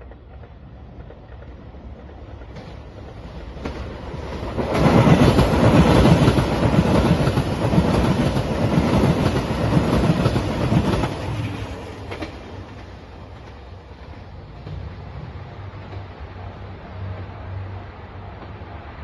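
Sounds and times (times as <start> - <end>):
diesel train passing close: 0.0 - 19.0.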